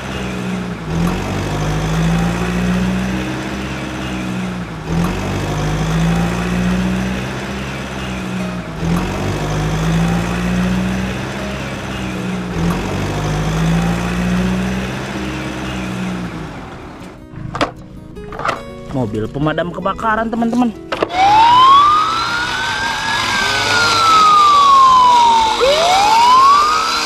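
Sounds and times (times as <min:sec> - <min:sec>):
truck engine idling: 0:00.0 - 0:18.0, 0:21.1 - 0:27.0.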